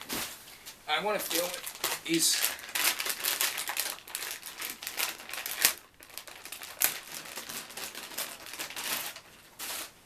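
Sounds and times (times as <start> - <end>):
plastic packaging crinkling: 1.2 - 10.0.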